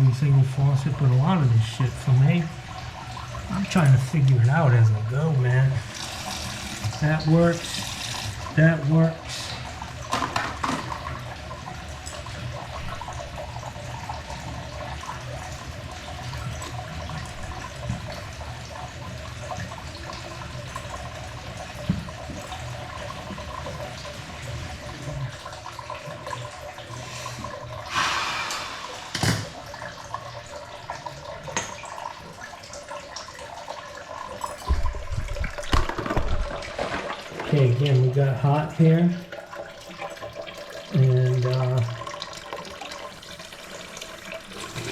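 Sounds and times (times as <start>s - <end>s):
water running into sink: 0.0s - 44.9s.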